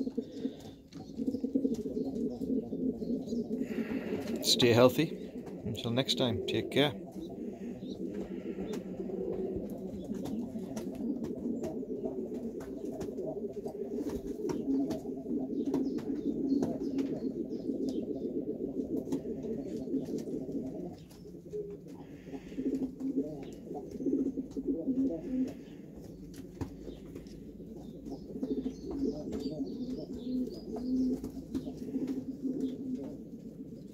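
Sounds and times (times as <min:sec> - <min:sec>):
pigeons cooing: 0:00.0 - 0:33.9.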